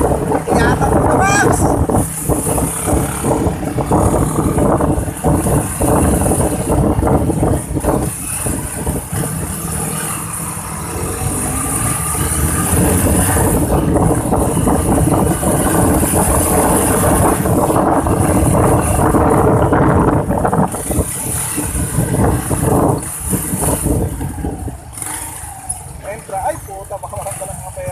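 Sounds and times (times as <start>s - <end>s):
road noise: 0.0s - 27.9s.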